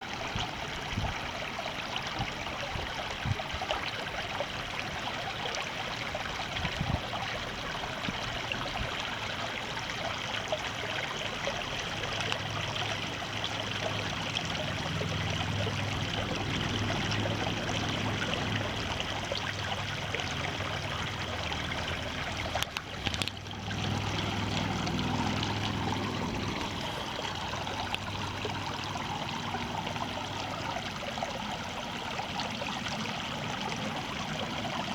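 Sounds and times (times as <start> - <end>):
running water rushing and trickling: 0.0 - 34.9.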